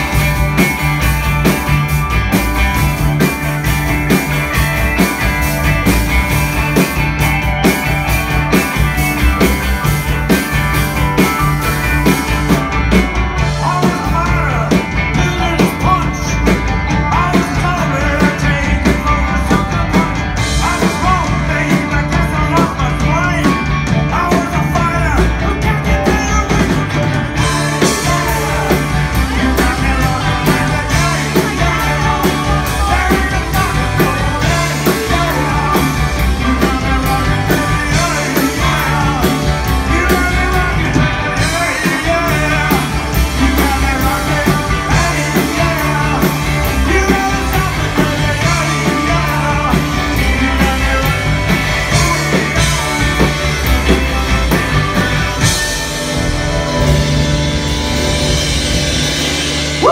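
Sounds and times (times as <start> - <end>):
bass guitar: 0.0 - 59.9
drums: 0.0 - 59.9
electric guitars: 0.0 - 59.9
keyboard: 0.0 - 59.9.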